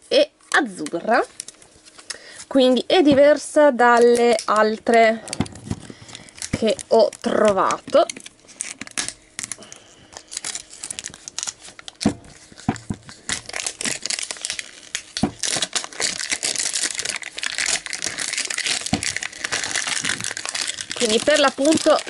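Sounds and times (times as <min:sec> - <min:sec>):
plastic wrap crinkling: 0:00.7 - 0:22.0.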